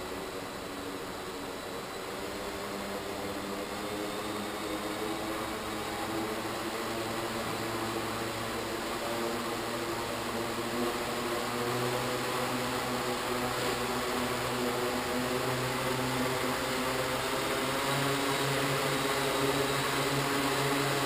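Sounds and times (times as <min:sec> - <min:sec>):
drone motors and propellers humming: 0:00.0 - 0:21.0.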